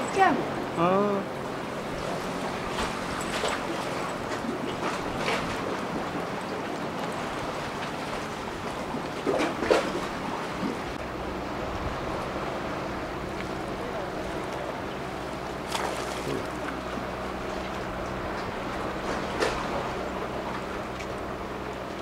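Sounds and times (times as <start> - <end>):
low steady hum: 0.0 - 22.0
water washing: 0.0 - 22.0
wind: 0.0 - 22.0.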